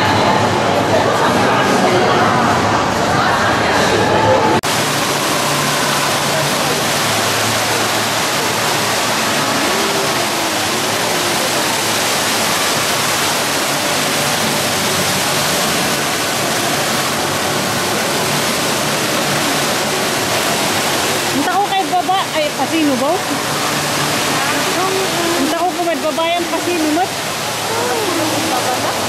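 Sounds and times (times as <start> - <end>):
fountain water splashing into basin: 0.0 - 29.0.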